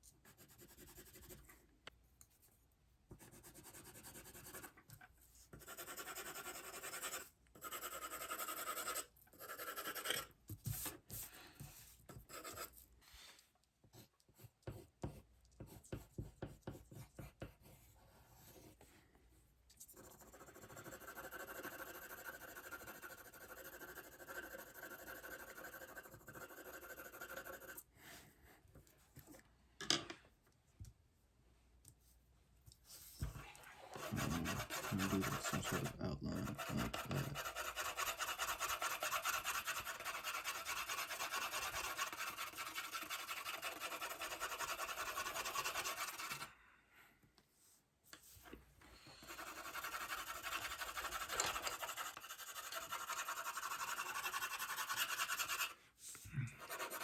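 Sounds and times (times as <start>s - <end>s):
pencil scratching on paper: 0.2s - 1.5s, 3.1s - 12.8s, 13.9s - 19.0s, 19.8s - 28.2s, 32.9s - 46.5s, 49.1s - 57.0s.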